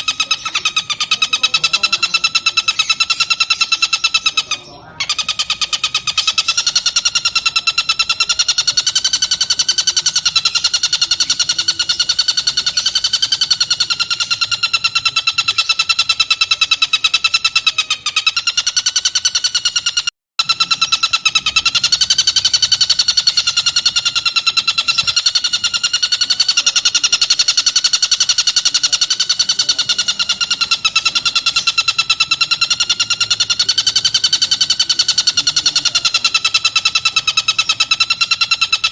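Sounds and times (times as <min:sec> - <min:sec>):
kingfisher high-pitched trill: 0:00.0 - 0:38.9.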